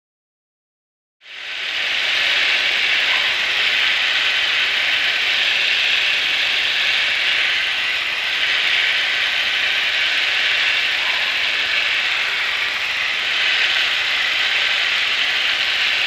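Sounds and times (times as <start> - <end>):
airplane engine and airflow rushing: 1.2 - 16.0.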